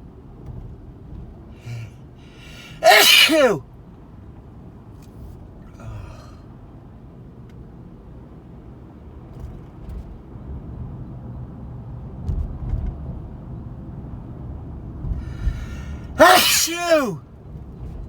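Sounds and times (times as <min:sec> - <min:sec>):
car road and engine rumble: 0:00.0 - 0:16.6.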